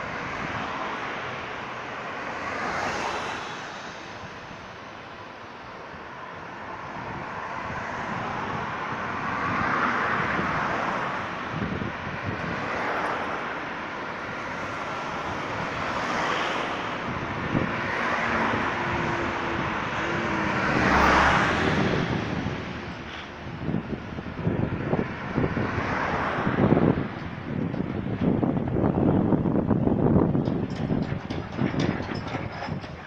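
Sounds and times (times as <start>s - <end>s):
cars driving past: 0.0s - 33.0s.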